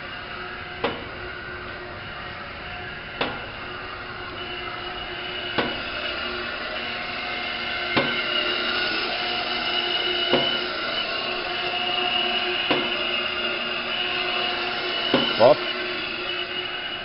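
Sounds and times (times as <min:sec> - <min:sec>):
blender motor humming: 0:02.6 - 0:17.0.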